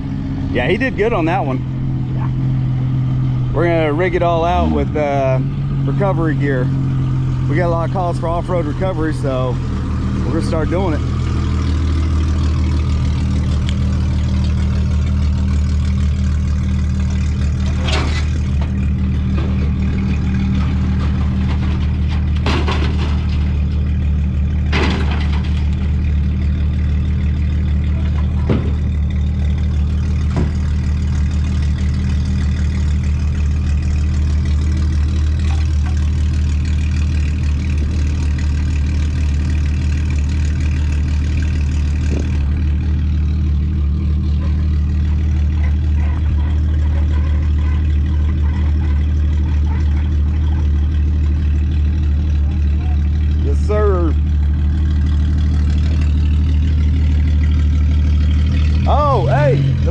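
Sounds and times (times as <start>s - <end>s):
truck engine droning: 0.0s - 59.9s.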